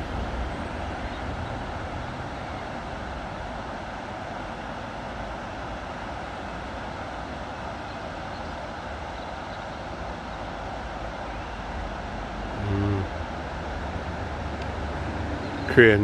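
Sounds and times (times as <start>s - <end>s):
low hum-like voiced sound: 0.0s - 16.0s
low rushing background noise: 0.0s - 16.0s.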